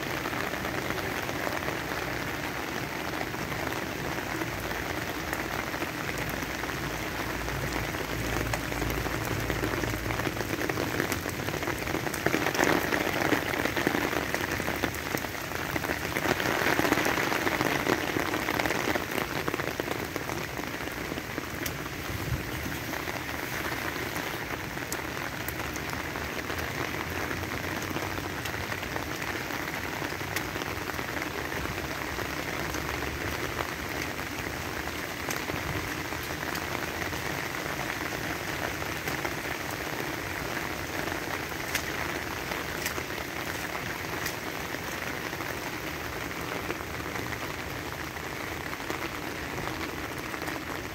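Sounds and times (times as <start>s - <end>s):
heavy rain on an umbrella: 0.0s - 50.9s.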